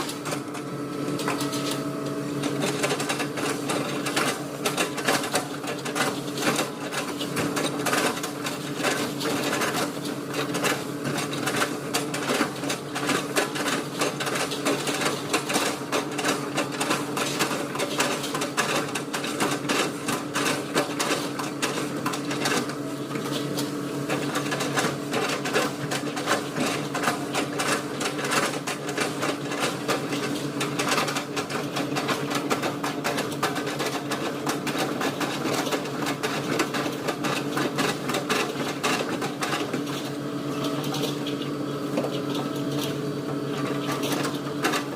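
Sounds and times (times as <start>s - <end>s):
excavator engine hum: 0.0s - 44.9s.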